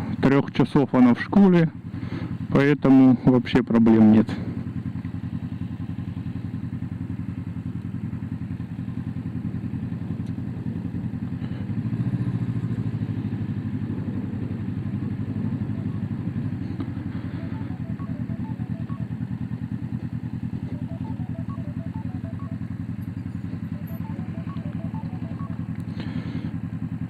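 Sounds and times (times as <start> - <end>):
motorcycle engine running: 0.0 - 3.2, 4.2 - 27.0.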